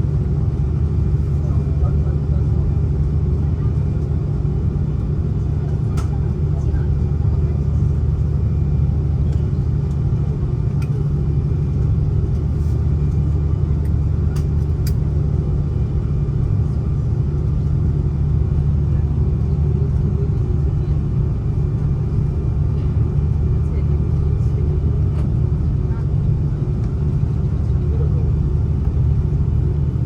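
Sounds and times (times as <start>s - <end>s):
airliner cabin engine hum: 0.0s - 30.0s.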